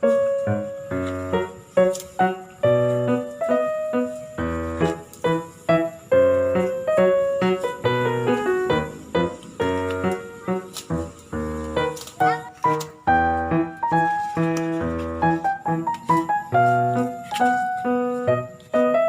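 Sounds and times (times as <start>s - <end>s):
piano-like keyboard melody: 0.0s - 19.0s.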